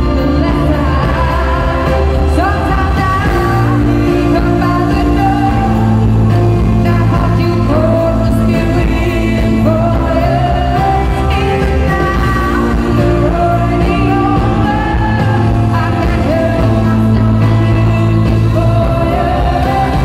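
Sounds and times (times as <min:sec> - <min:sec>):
live pop band playing: 0:00.0 - 0:20.0
steady bass: 0:00.0 - 0:20.0
woman singing lead vocal: 0:00.0 - 0:20.0.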